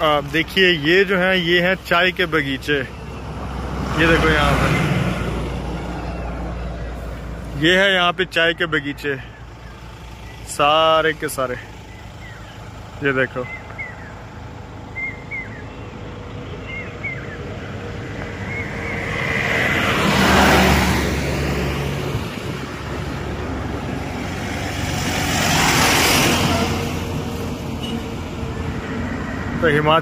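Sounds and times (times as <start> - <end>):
car road and engine noise: 0.0 - 30.0
vehicles passing by: 0.0 - 30.0.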